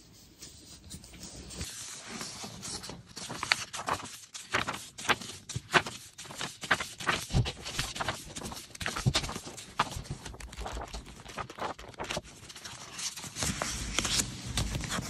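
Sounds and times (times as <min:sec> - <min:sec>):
paper pages flipping: 0:01.0 - 0:15.0.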